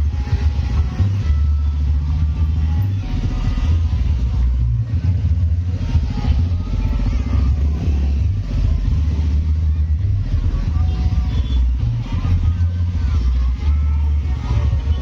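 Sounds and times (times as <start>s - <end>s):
heavy distorted bass notes: 0.0s - 15.0s
sound system playing music: 0.0s - 15.0s.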